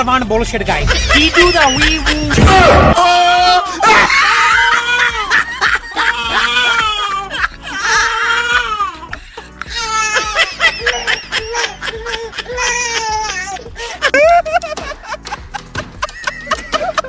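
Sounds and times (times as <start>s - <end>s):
background music: 0.0s - 17.0s
high-pitched laughing: 0.9s - 17.0s.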